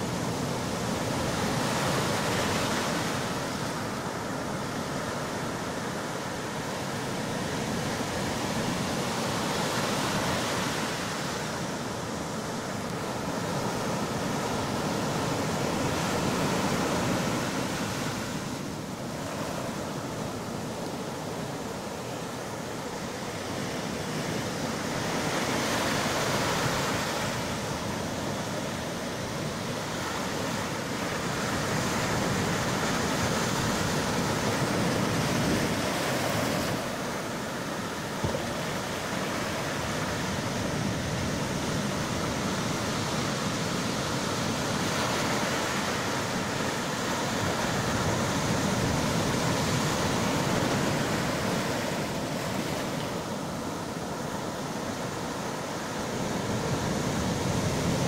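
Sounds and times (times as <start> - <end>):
waves breaking on sandy beach: 0.0 - 58.0.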